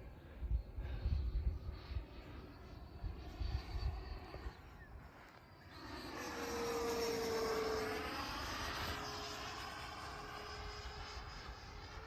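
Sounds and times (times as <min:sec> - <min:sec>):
model jet fans whining past: 0:00.0 - 0:12.0.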